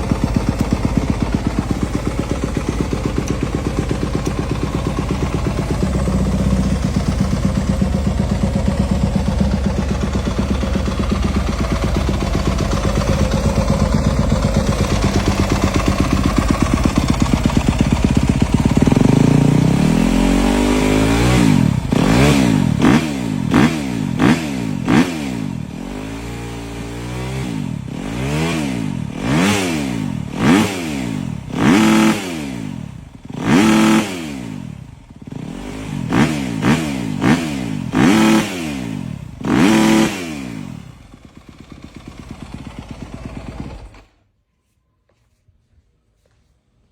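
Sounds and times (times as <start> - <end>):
dirt bike engine revving: 0.0 - 44.1
dirt bike engine idling: 0.0 - 44.2.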